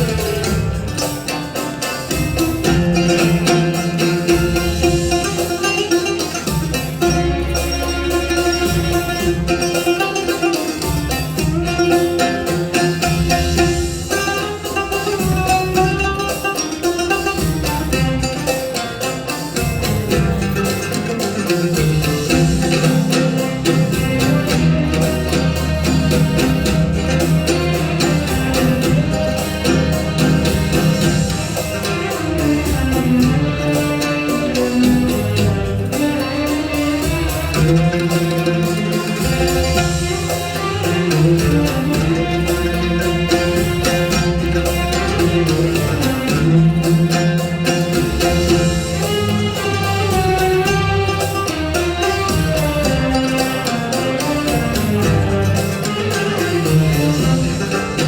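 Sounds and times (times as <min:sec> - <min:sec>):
oud music: 0:00.0 - 0:58.0.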